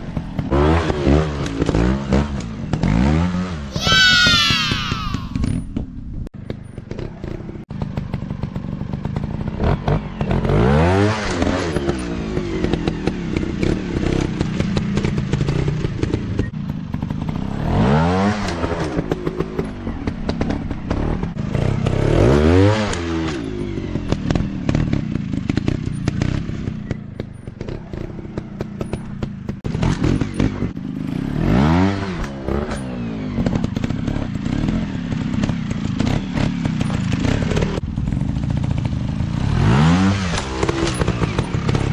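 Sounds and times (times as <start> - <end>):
off-road motorcycle engines revving: 0.0 - 41.9.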